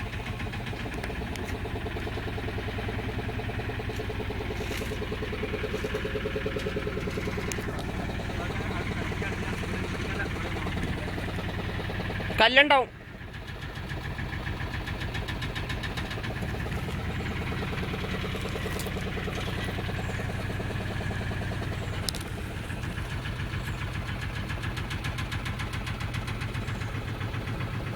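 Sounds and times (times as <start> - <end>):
motorboat engine puttering: 0.0 - 27.9.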